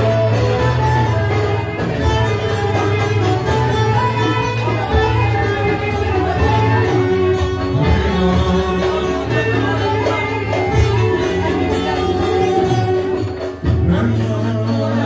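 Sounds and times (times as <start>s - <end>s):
bass line: 0.0s - 15.0s
live band music: 0.0s - 15.0s
man singing into microphone: 0.0s - 15.0s
plucked strings: 0.0s - 15.0s
violin: 0.0s - 15.0s.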